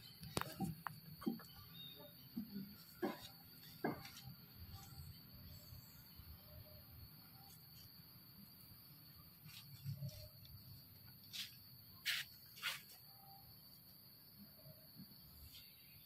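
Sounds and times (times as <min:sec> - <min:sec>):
high drone of insects: 0:00.0 - 0:16.0.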